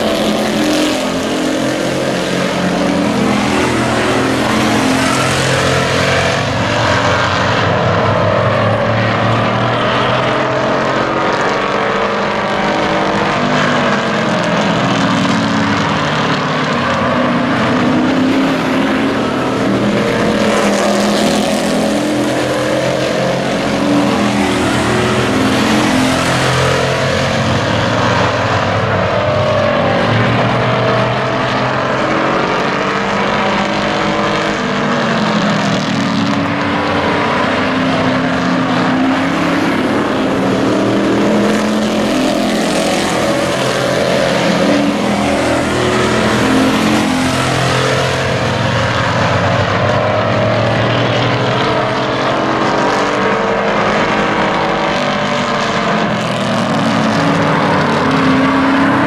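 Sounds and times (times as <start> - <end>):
racing truck engines: 0.0 - 59.0.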